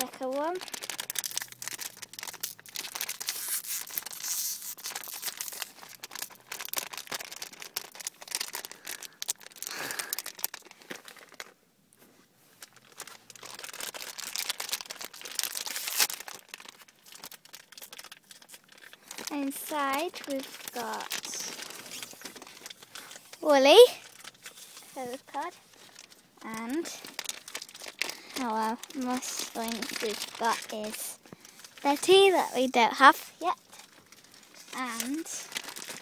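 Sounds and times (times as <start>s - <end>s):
plastic packet crinkling and tearing: 0.0s - 11.6s, 12.4s - 36.0s.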